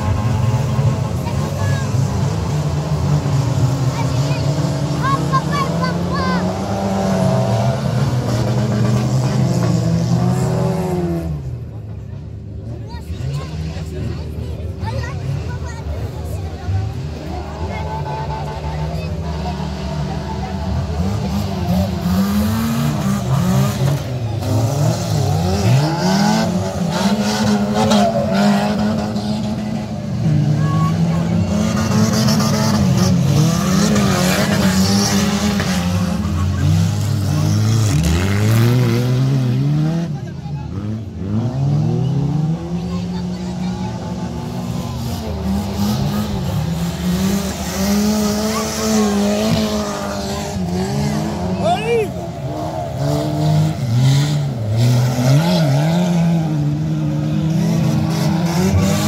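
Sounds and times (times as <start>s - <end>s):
stock car engines revving: 0.0s - 59.0s.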